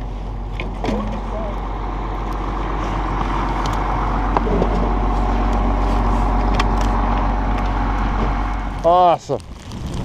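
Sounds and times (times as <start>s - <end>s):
engine low drone: 0.0s - 10.0s.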